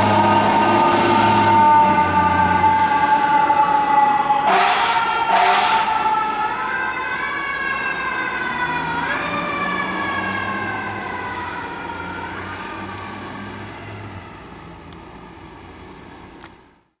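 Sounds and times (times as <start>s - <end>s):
fire truck siren wailing: 0.0s - 16.7s
heavy truck engine rumble: 0.0s - 16.9s.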